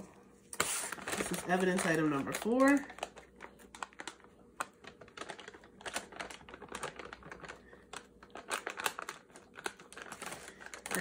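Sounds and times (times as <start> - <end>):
stiff paper crinkling: 0.6 - 11.0.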